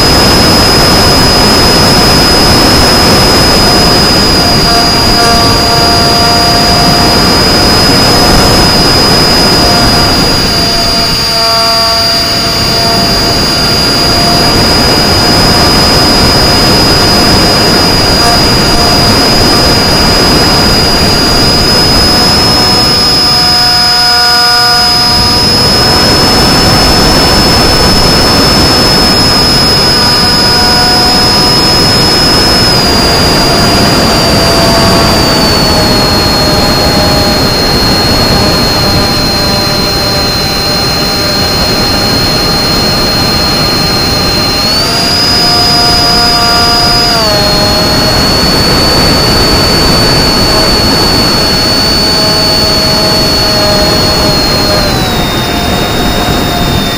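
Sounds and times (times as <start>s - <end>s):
electric motor propeller whine: 0.0s - 56.9s.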